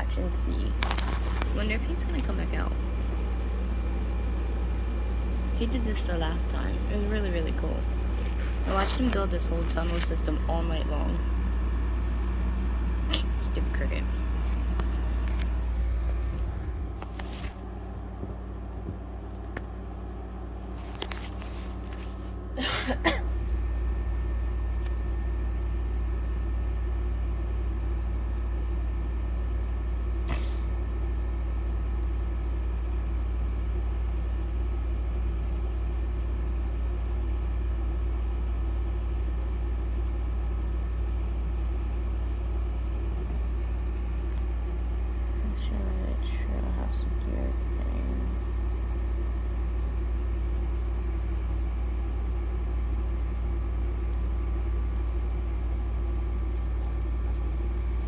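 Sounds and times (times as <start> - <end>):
faint high whine: 0.0 - 58.0
steady low hum: 0.0 - 58.0.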